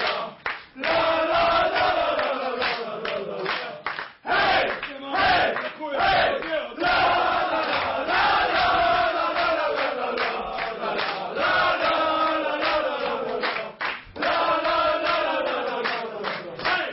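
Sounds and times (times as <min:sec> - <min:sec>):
group chanting: 0:00.0 - 0:16.9
people clapping in time: 0:00.0 - 0:16.9.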